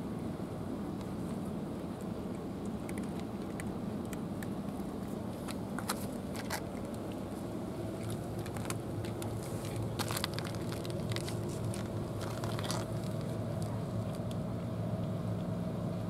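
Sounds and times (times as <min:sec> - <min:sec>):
steady low rumble: 0:00.0 - 0:16.0
cats crunching dry kibble: 0:01.0 - 0:14.4.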